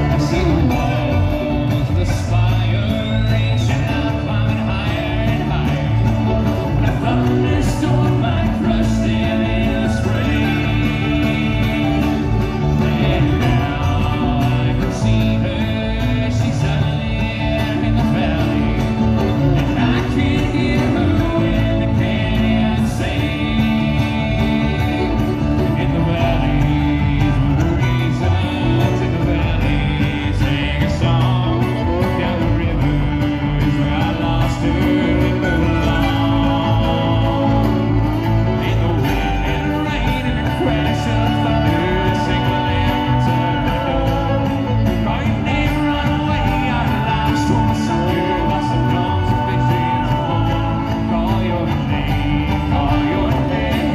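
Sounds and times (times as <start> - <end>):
banjo picking: 0.0 - 53.9
person singing: 0.0 - 53.9
upright bass line: 0.0 - 53.9.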